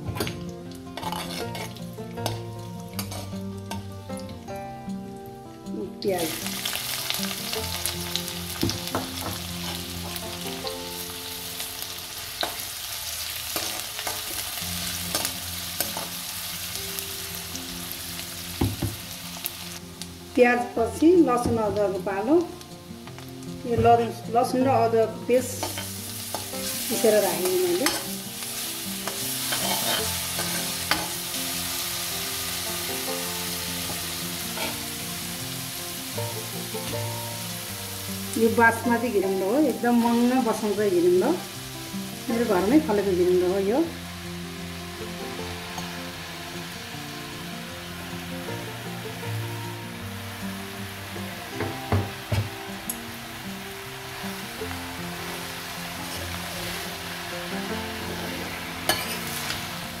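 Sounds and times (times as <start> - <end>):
onions sizzling in a pan: 0.0 - 60.0
soft background music: 0.0 - 60.0.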